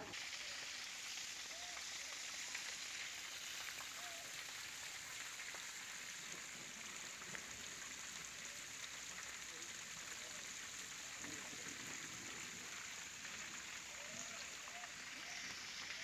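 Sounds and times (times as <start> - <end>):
rain falling on trees: 0.0 - 16.0.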